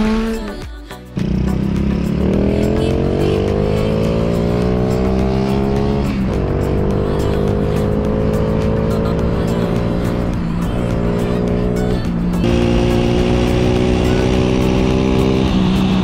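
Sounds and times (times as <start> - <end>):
background music: 0.0 - 16.0
motorcycle engine accelerating: 0.0 - 16.0.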